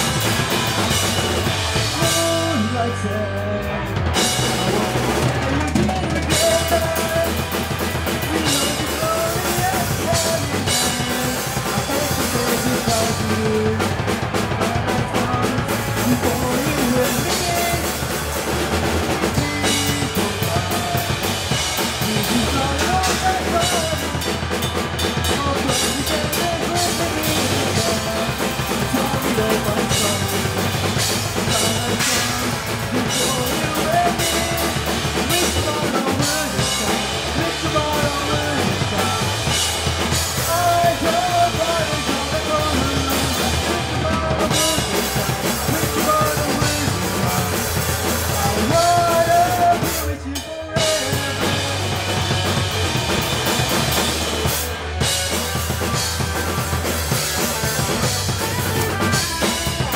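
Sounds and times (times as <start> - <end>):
drum kit playing: 0.0 - 59.9
electric guitar: 0.0 - 59.9.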